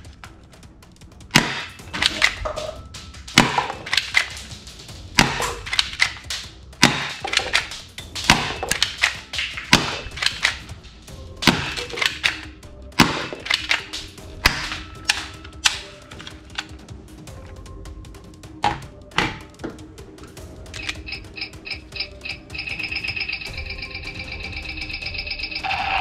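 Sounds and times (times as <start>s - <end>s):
faint background music: 0.0s - 26.0s.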